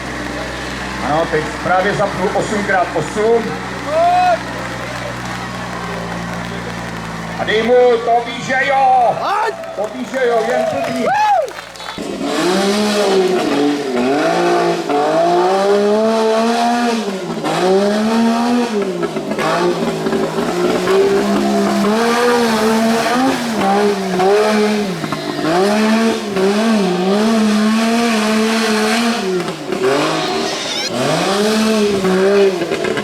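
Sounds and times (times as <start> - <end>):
engine revving at high revs: 0.0 - 9.1, 12.0 - 33.0.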